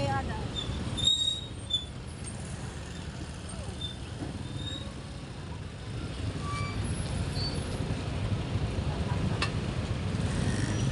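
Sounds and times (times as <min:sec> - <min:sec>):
motor traffic rumble: 0:00.0 - 0:10.9.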